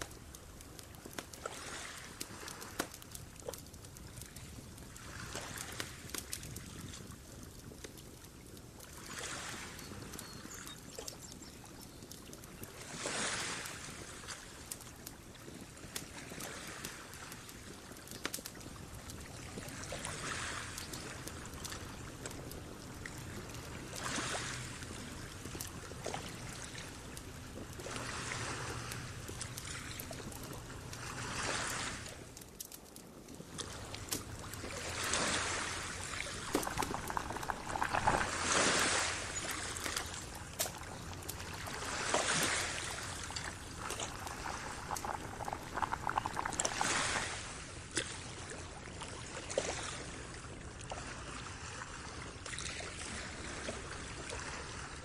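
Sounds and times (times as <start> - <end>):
small waves lapping on shore: 0.0 - 11.6, 12.2 - 55.0
log fire crackling: 0.0 - 12.9, 13.6 - 48.0.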